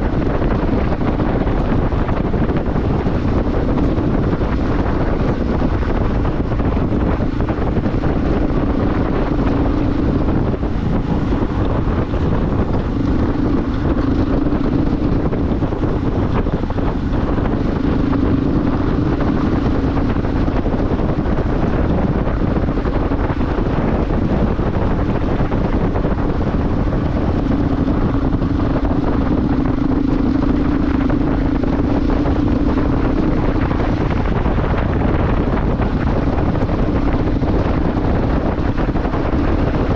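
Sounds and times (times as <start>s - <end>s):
motorcycle engine hum: 0.0s - 39.9s
wind rush on microphone: 0.0s - 39.9s.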